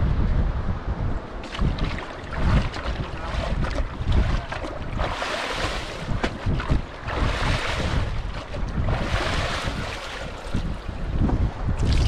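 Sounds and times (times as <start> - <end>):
wind buffeting microphone: 0.0 - 12.0
water splashing and pouring: 1.4 - 10.9, 11.8 - 12.0.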